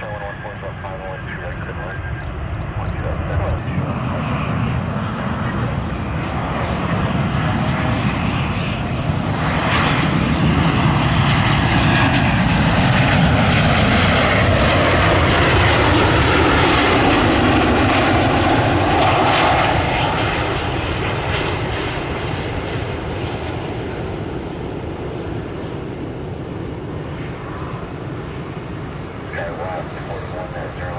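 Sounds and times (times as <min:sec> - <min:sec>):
jet passing by: 0:00.0 - 0:30.9.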